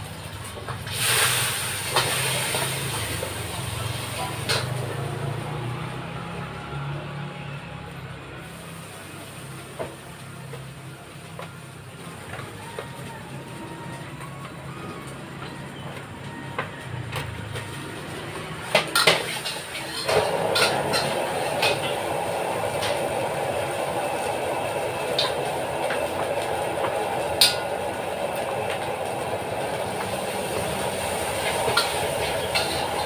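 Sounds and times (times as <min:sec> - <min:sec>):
gas burner roaring: 0:00.0 - 0:33.0
rice frying in a wok: 0:00.0 - 0:33.0.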